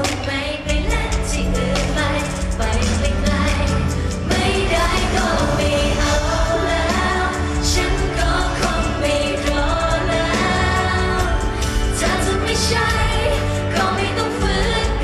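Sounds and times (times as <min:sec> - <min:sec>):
live pop band music: 0:00.0 - 0:15.0
person singing: 0:00.0 - 0:15.0.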